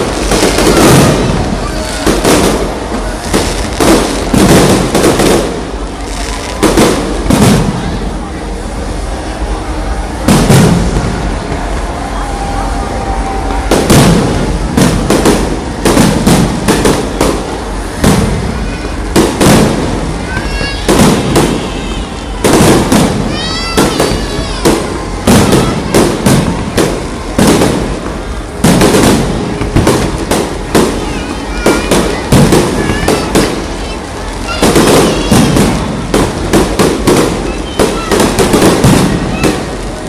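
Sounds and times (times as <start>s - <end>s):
fireworks bursting: 0.0s - 40.0s.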